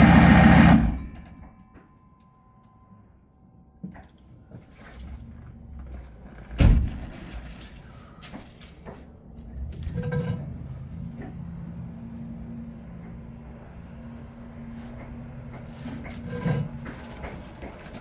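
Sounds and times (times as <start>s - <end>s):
low engine rumble: 0.0s - 1.6s, 4.6s - 18.0s.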